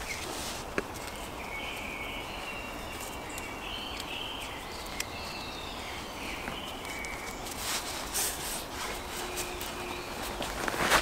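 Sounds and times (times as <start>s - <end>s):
rustle: 0.0s - 11.0s.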